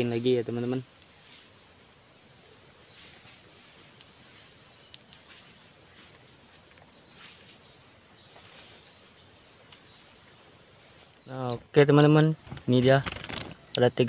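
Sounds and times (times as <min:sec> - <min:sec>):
forest insects chorus: 0:00.0 - 0:14.0.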